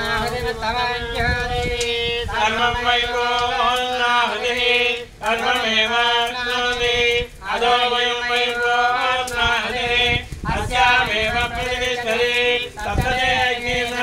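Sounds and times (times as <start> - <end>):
devotional chanting: 0.0 - 14.0.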